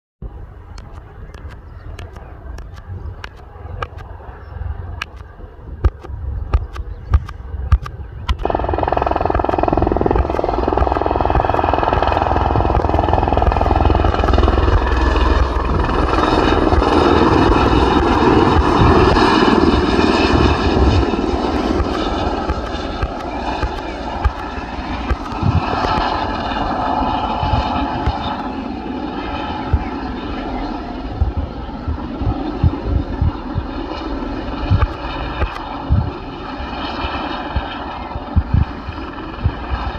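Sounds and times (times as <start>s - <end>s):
helicopter rotor beat: 0.2s - 39.9s
high turbine whine: 0.2s - 39.9s.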